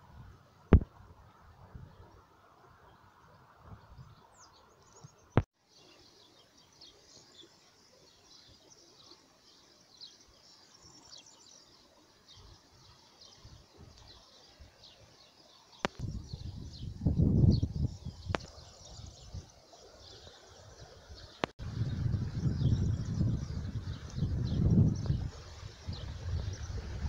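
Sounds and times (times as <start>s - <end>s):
small birds chirping: 2.0s - 27.0s.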